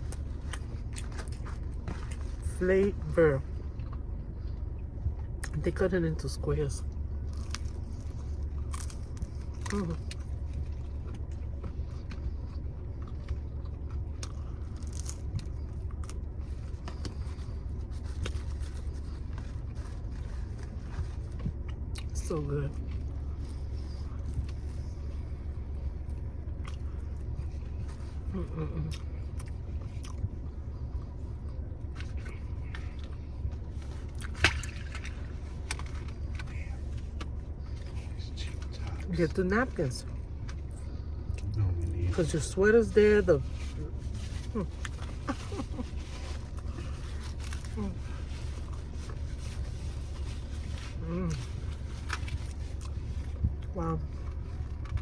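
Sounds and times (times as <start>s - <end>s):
biting and chewing pizza: 0.0s - 55.0s
steady low hum: 0.0s - 55.0s
car cabin rumble: 7.4s - 55.0s.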